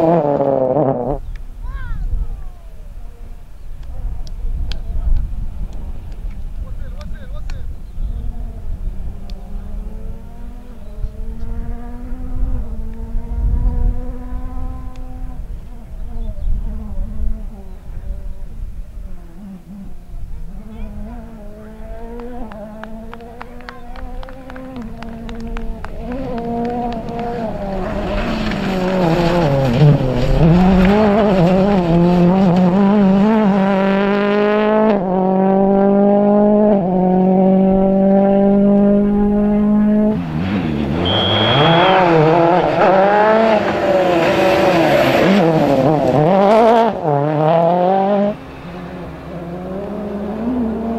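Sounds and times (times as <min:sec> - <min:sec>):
rally car engine at high revs: 0:00.0 - 0:01.4, 0:03.1 - 0:50.9
low rumble of car running: 0:00.0 - 0:50.9.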